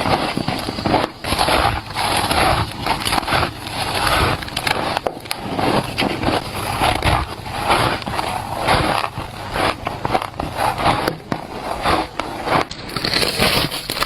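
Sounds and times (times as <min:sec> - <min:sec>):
crunchy ice chewing: 0:00.0 - 0:14.0.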